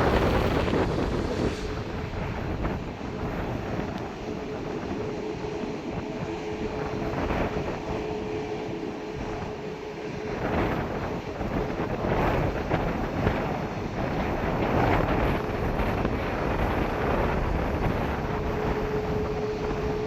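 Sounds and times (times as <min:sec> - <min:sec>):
jet engines running: 0:00.0 - 0:20.0
wind buffeting microphone: 0:00.0 - 0:20.0.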